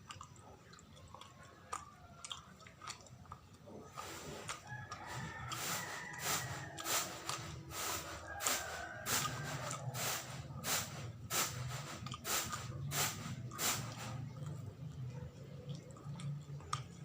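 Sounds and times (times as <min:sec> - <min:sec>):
wet chewing and lip-smacking: 0:00.0 - 0:10.6, 0:11.5 - 0:17.0.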